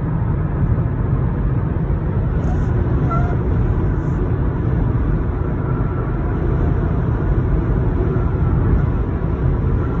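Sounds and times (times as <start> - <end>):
road noise: 0.0 - 10.0
wind noise inside moving car: 0.0 - 10.0.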